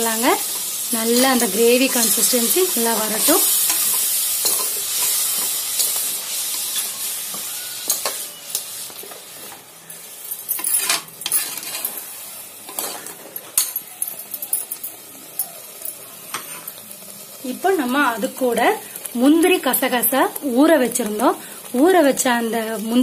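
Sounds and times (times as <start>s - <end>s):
gravy sizzling in a pot: 0.0s - 23.0s.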